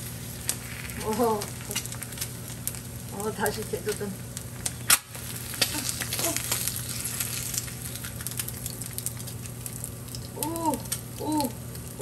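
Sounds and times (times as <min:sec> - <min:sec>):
eggs and ham sizzling: 0:00.0 - 0:12.0.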